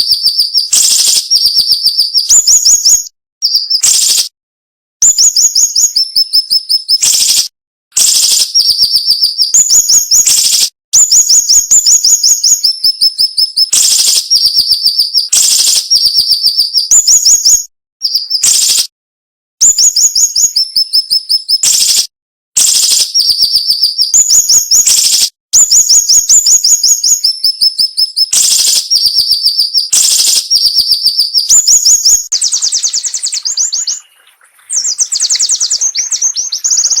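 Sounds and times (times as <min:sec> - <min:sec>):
bird singing high chirps: 0:00.0 - 0:04.3, 0:05.0 - 0:18.9, 0:19.6 - 0:22.1, 0:22.7 - 0:37.0.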